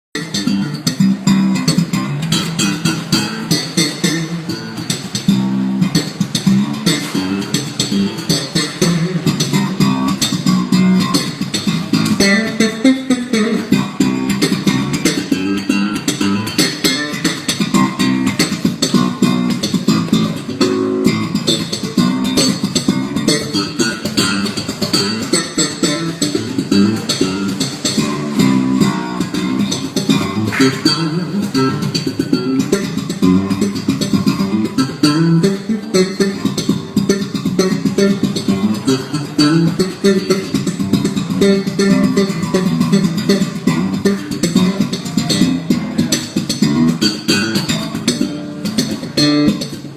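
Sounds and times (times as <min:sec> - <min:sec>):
electric bass guitar line: 0:00.0 - 0:49.9.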